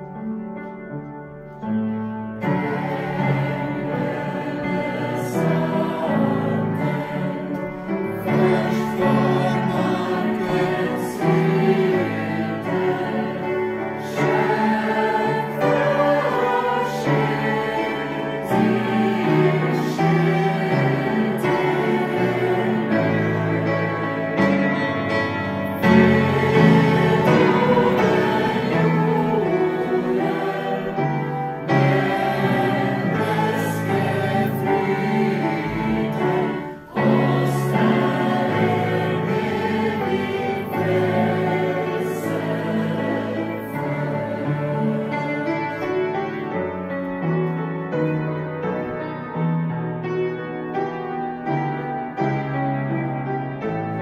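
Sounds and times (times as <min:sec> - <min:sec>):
choir singing slow chords: 0:00.0 - 0:46.7
musical accompaniment: 0:00.0 - 0:54.0.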